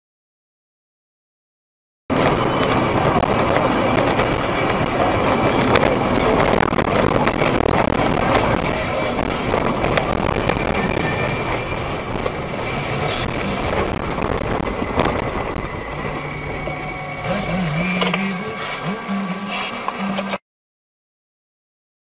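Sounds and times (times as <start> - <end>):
vehicle engine and road noise: 2.1 - 20.4.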